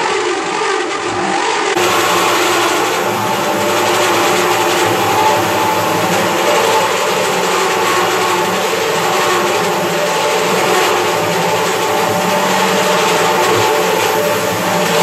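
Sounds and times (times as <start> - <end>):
electric drill boring through steel: 0.0 - 15.0.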